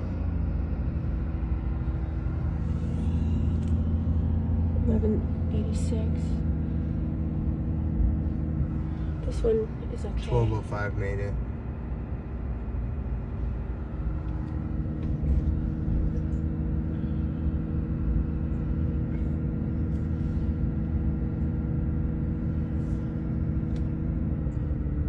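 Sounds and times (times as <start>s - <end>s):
car engine and road rumble: 0.0s - 25.0s
steady hum: 0.8s - 25.0s.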